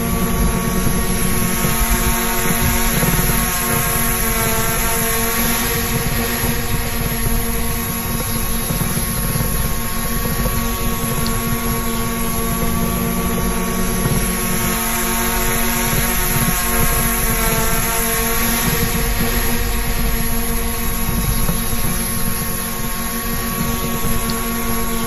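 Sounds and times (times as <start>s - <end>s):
drone propellers humming: 0.0s - 25.0s.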